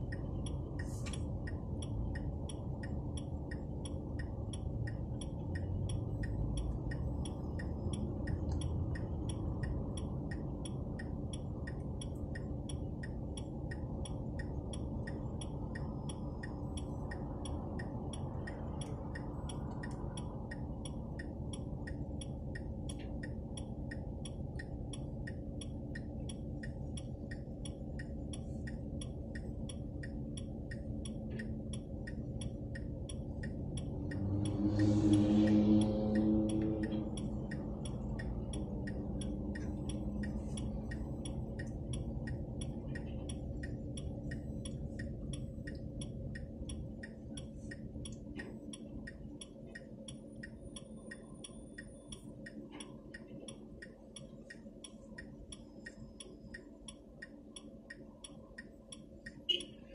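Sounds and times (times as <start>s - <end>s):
car indicator ticking: 0.0s - 59.9s
engine and road noise hum: 0.0s - 59.9s.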